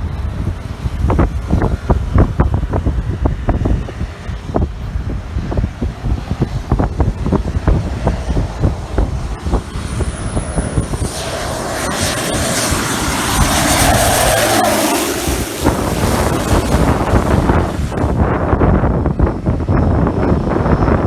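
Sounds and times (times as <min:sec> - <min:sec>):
small airplane passing: 0:00.0 - 0:21.0
wind buffeting microphone: 0:00.0 - 0:21.0.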